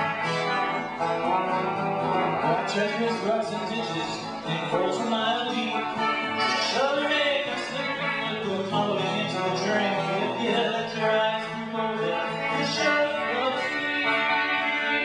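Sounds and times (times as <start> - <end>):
acoustic folk song with plucked strings: 0.0 - 15.0.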